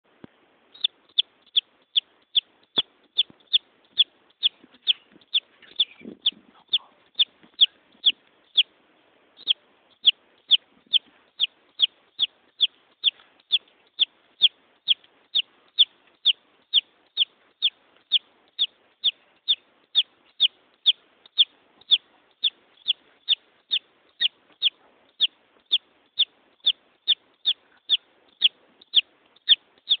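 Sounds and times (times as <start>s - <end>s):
chick peeping: 0.7s - 8.7s, 9.4s - 30.0s.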